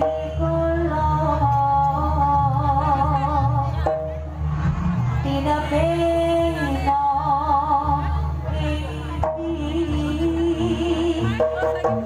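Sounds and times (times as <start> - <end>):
steady low accompaniment: 0.0 - 12.0.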